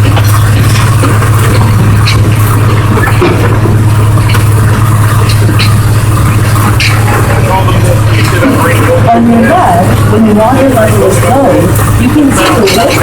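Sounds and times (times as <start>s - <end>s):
locomotive engine drone: 0.0s - 13.0s
train rolling rumble: 0.0s - 13.0s.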